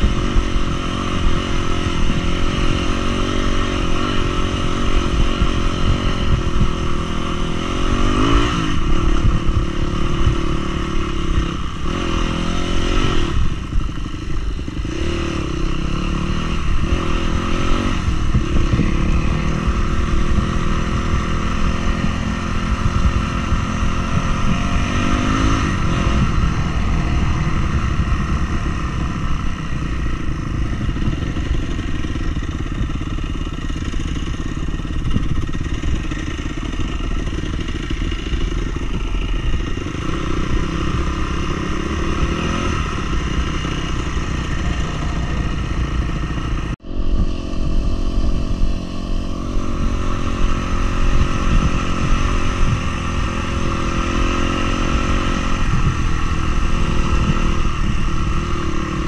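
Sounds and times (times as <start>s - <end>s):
off-road vehicle engine revving: 0.0s - 59.0s
road noise: 0.0s - 59.0s.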